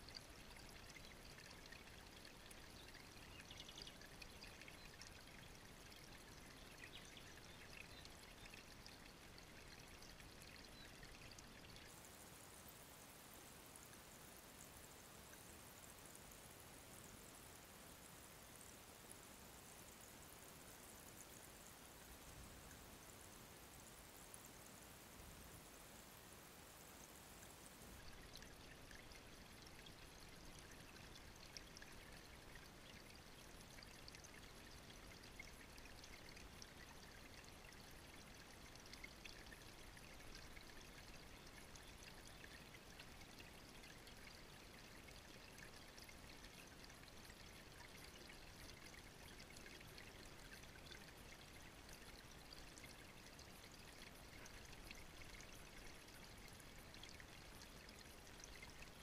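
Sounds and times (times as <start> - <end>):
water trickling and burbling: 0.0 - 59.0.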